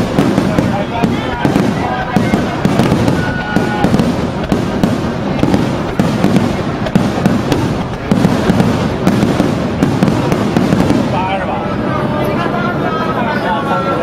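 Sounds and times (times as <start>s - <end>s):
fireworks bangs: 0.0s - 12.0s
fireworks crackle: 0.0s - 12.1s.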